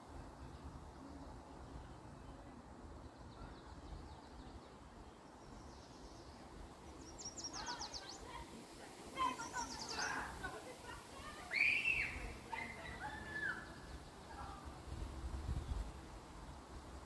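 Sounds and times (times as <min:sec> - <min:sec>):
faint outdoor background noise: 0:00.0 - 0:17.0
songbirds calling: 0:00.1 - 0:16.9.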